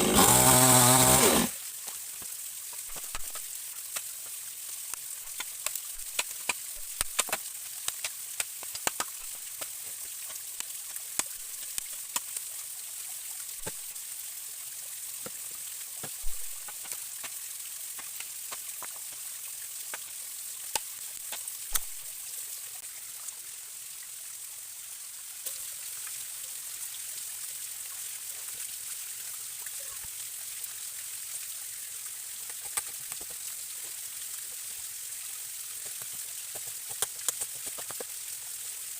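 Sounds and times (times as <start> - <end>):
forest stream running: 0.0 - 38.9.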